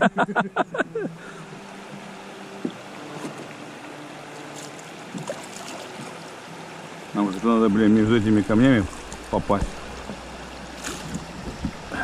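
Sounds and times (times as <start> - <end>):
river water rippling: 0.0 - 12.0.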